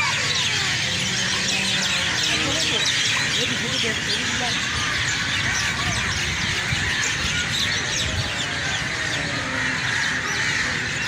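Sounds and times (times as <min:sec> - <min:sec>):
flock of birds chirping: 0:00.0 - 0:11.0.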